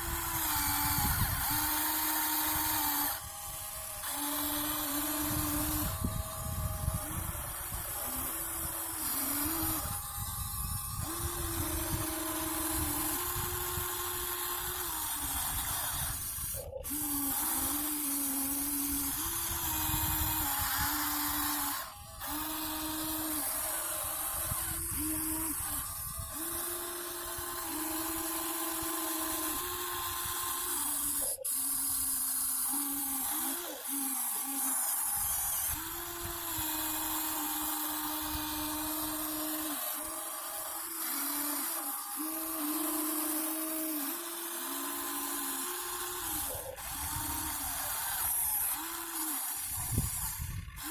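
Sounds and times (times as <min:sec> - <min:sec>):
small electric motors whining: 0:00.0 - 0:50.9.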